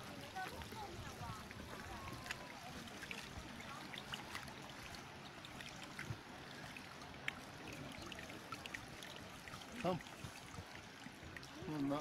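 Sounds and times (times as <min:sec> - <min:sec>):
faint water trickling: 0:00.0 - 0:12.0
small splashes and drips: 0:00.0 - 0:12.0.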